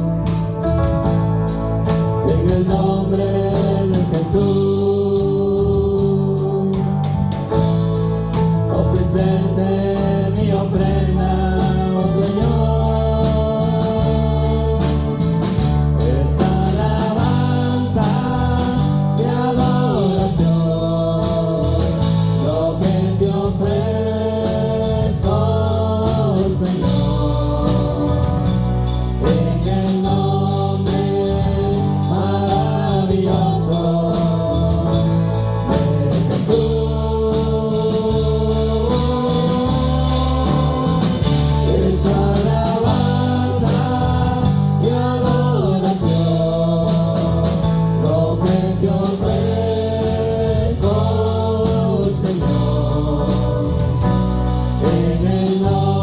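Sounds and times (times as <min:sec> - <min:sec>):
band with bass and beat: 0:00.0 - 0:56.0
voices singing together: 0:02.2 - 0:07.6, 0:08.7 - 0:56.0.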